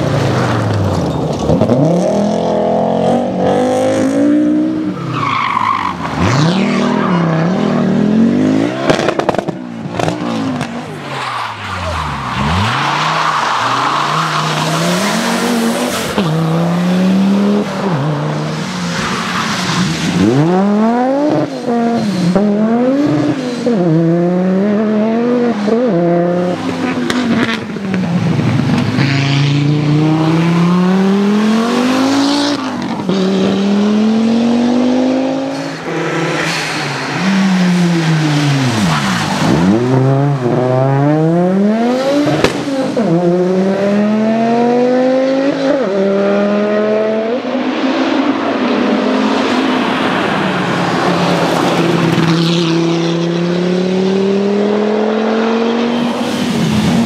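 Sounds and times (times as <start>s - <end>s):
rally car engines revving hard: 0.0s - 5.3s, 6.0s - 57.0s.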